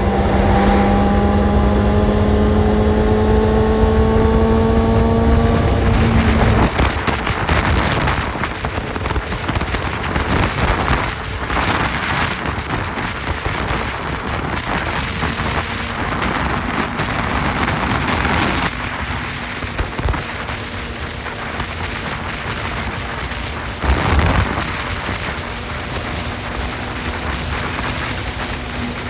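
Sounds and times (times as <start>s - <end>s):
motorcycle engine steady tone: 0.0s - 29.0s
wind buffeting microphone: 0.0s - 29.0s.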